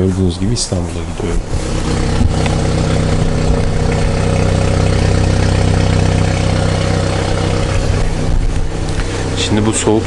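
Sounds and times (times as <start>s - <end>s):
car exhaust idling: 0.4s - 10.0s.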